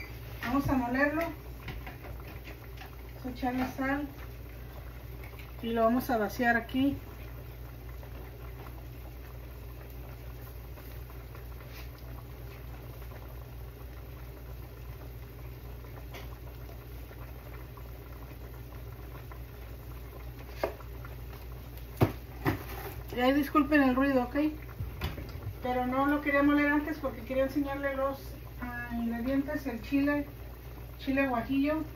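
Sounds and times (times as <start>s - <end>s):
pots boiling on a stove: 0.0s - 31.9s.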